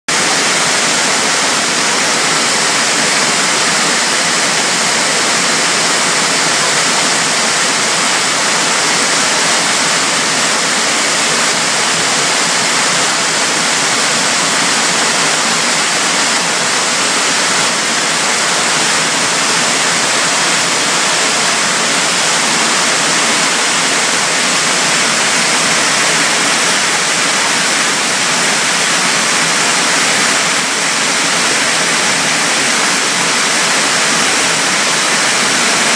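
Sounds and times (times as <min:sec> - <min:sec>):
waterfall rushing: 0:00.1 - 0:35.9.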